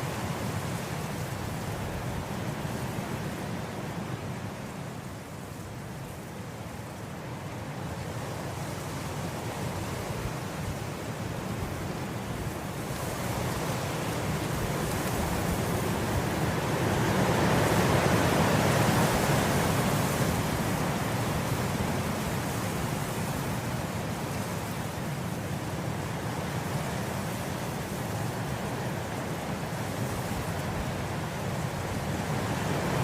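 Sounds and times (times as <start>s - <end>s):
wind blowing through grass: 0.0s - 33.0s.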